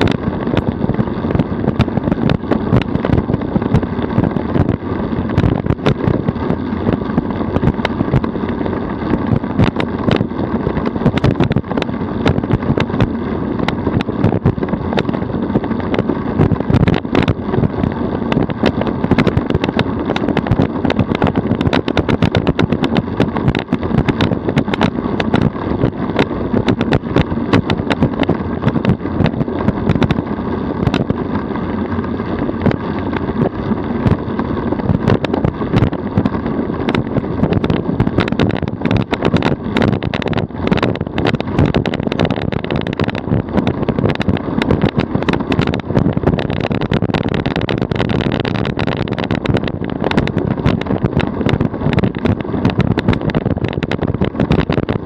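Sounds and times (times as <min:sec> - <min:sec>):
sharp clicks and knocks: 0:00.0 - 0:31.3, 0:31.9 - 0:55.0
tyres rumbling on asphalt: 0:00.0 - 0:55.0.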